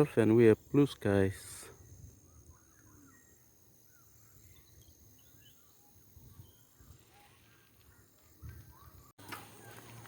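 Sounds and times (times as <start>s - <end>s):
faint bird chirps: 1.7s - 10.0s.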